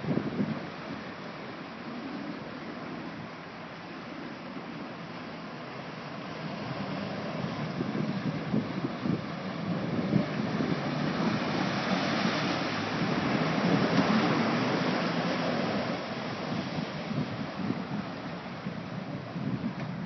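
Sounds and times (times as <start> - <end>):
water splashing around vehicle: 0.0 - 20.0.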